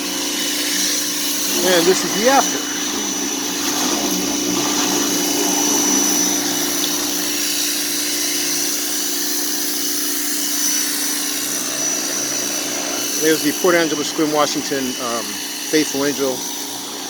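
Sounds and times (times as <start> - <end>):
machine motor humming: 0.0 - 17.0.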